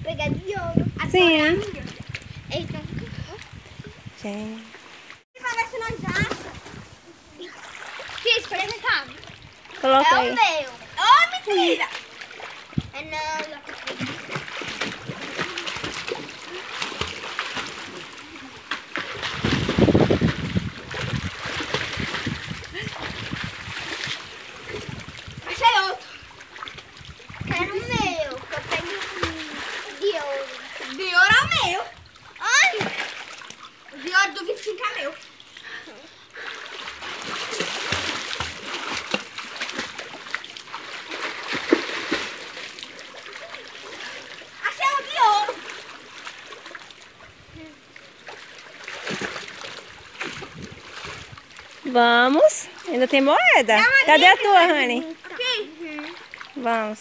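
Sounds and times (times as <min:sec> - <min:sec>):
water splashing in pool: 0:01.2 - 0:57.0.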